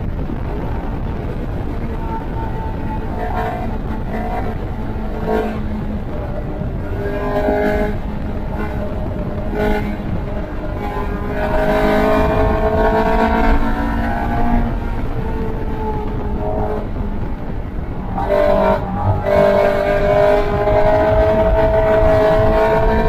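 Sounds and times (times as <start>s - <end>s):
race car engine under load: 0.0s - 23.0s
road rumble: 0.0s - 23.0s
wind: 0.0s - 23.0s.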